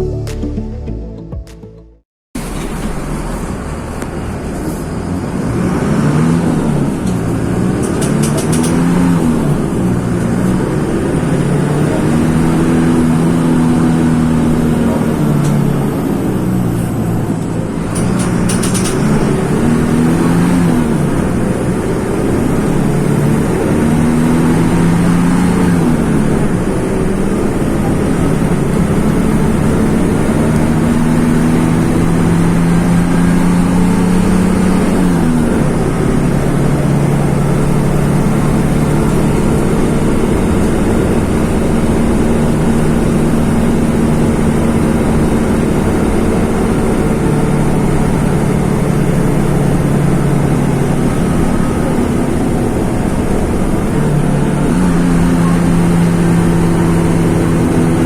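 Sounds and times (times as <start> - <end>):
bus diesel engine pulling: 2.4 - 58.0.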